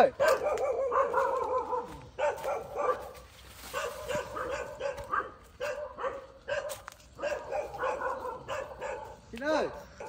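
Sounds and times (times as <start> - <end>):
dog yelping and barking: 0.0 - 10.0.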